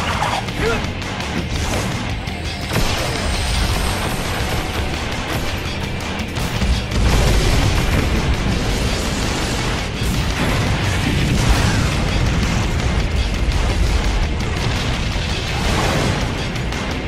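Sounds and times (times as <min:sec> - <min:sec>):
dramatic background music: 0:00.0 - 0:17.0
rumbling explosions and blasts: 0:00.0 - 0:17.0.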